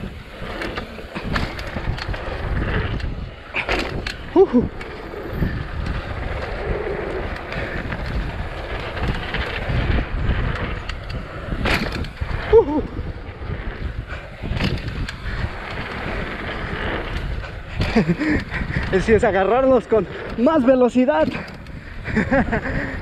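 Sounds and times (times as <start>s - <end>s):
bike knocking and rattling: 0.0s - 23.0s
bike tyres on dirt trail: 0.0s - 23.0s
wind buffeting on microphone: 0.0s - 23.0s.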